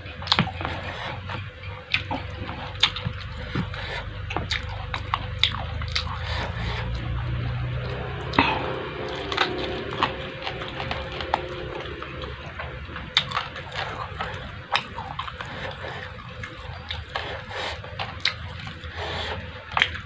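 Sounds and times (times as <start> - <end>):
person chewing food: 0.0 - 20.0
wet lip smacks and clicks: 0.2 - 20.0.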